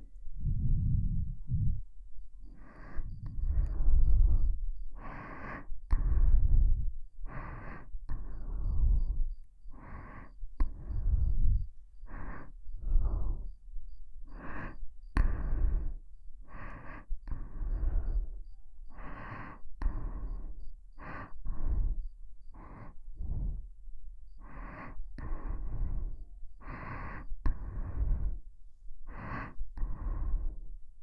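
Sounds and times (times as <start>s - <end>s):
breathing into microphone: 0.0s - 23.8s, 24.4s - 30.8s.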